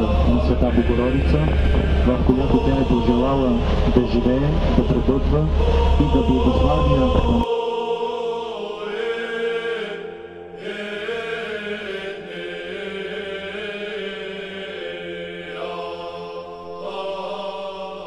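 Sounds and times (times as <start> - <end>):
held drone note: 0.0 - 17.5
voices chanting slow melody: 0.0 - 18.0.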